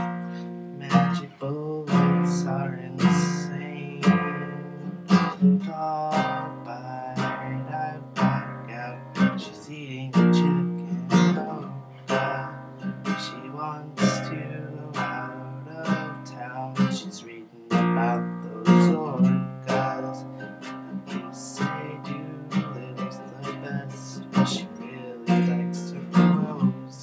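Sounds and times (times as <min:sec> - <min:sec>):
classical guitar strumming: 0:00.0 - 0:27.0.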